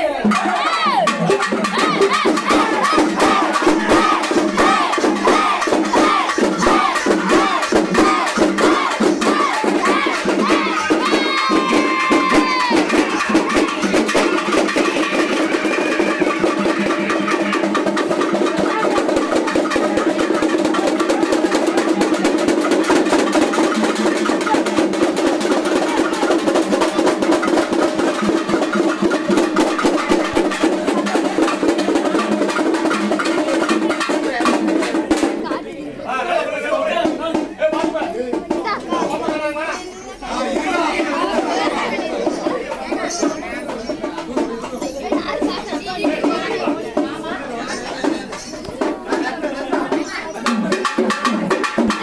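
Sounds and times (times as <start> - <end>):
crowd voices: 0.0 - 52.0
drums in fast rhythm: 0.0 - 52.0.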